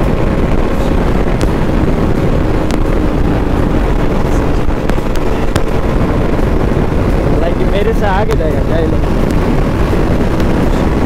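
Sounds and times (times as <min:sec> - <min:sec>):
motorcycle engine: 0:00.0 - 0:11.0
wind rush on microphone: 0:00.0 - 0:11.0.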